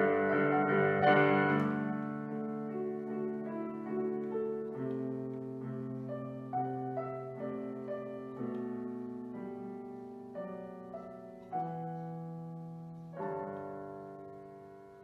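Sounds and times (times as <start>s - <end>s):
gentle digital piano: 0.0s - 15.0s.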